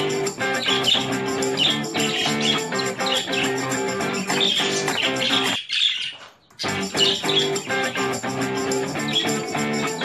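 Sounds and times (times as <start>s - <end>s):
plucked guitar music: 0.0s - 5.6s, 6.6s - 10.0s
budgerigars chirping: 0.0s - 9.8s.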